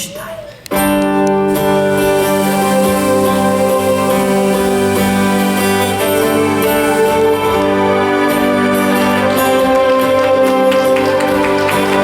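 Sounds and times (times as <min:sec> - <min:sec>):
instrumental music with held notes: 0:00.7 - 0:12.0.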